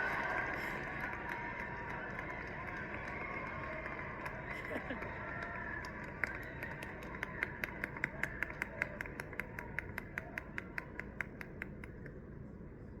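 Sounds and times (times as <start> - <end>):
hands clapping quickly: 0.0 - 12.2.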